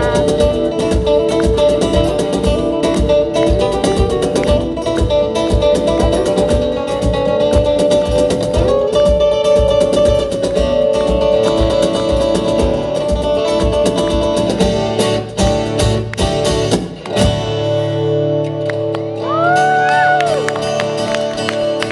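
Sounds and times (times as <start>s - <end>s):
fast-strummed acoustic guitar: 0.0s - 18.8s, 19.8s - 21.9s
live band playing: 0.0s - 21.9s.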